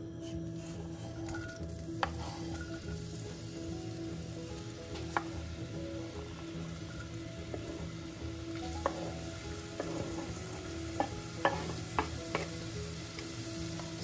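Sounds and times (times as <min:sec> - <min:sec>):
onion sizzling in hot oil: 0:00.2 - 0:14.0.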